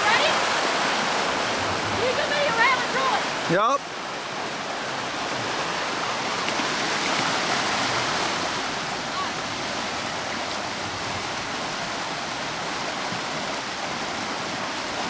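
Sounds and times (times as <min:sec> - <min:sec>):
fast-flowing creek water: 0:00.0 - 0:15.0.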